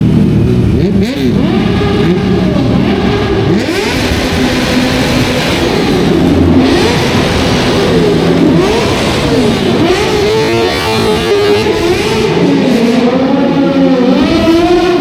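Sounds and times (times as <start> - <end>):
motorcycles revving: 0.0 - 15.0.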